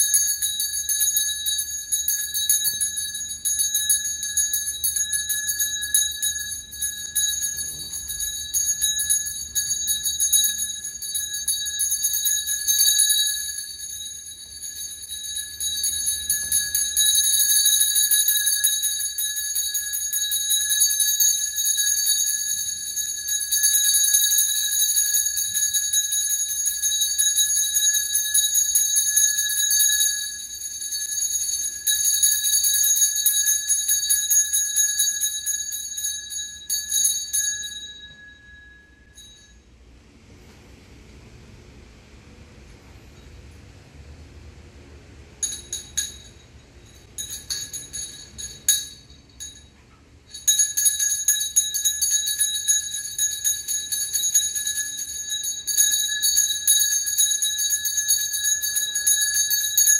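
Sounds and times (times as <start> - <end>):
hand bell ringing: 0.0 - 39.7, 45.4 - 59.9.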